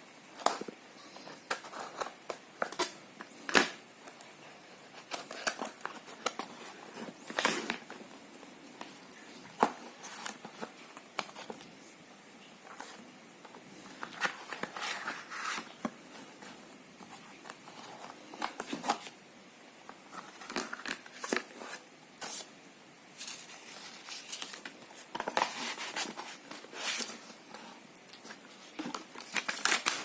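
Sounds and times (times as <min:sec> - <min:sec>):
packaging rustling and crinkling: 0:00.3 - 0:19.2, 0:23.2 - 0:30.0.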